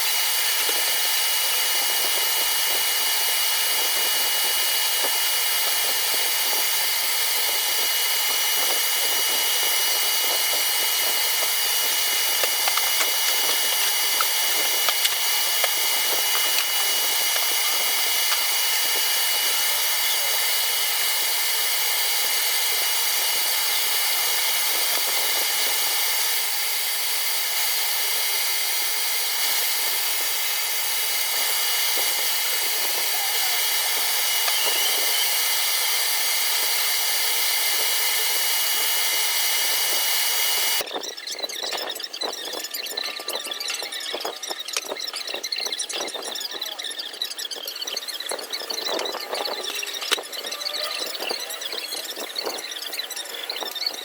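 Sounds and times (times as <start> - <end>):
lathe whirring with high whine: 0.0 - 54.0.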